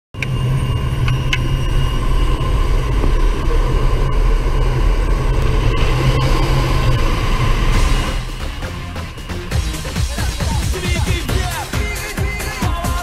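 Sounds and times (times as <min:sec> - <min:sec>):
plane engine and propeller drone: 0:00.2 - 0:11.2.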